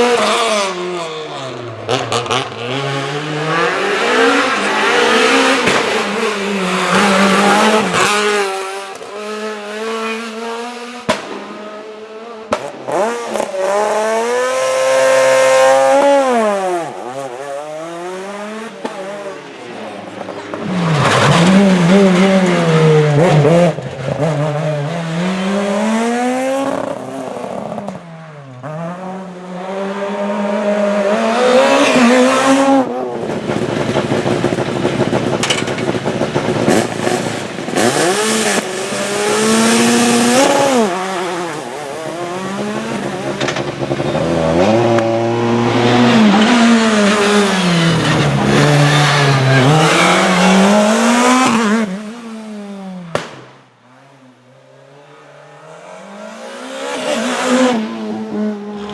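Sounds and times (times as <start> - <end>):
rally car engines revving: 0.0 - 58.9.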